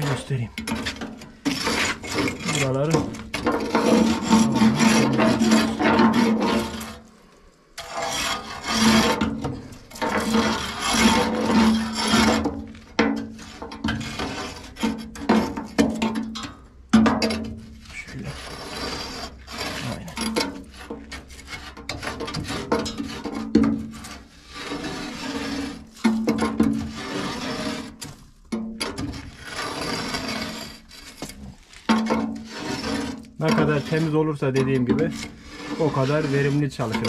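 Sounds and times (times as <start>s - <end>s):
metal scraper rasping inside boiler: 0.0s - 7.1s, 7.8s - 37.0s.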